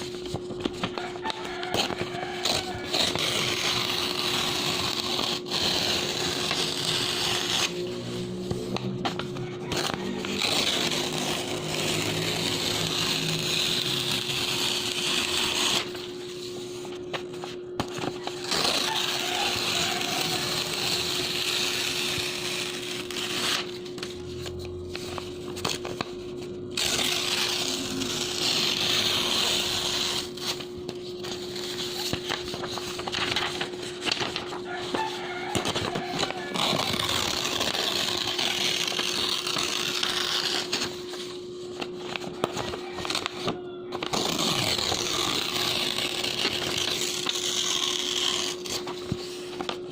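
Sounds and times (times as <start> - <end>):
paper tearing: 0.0 - 49.9.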